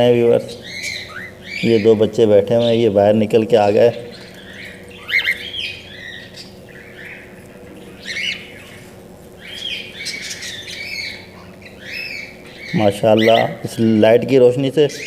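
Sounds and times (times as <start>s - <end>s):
cockatiels squawking and chirping: 0.5s - 14.3s.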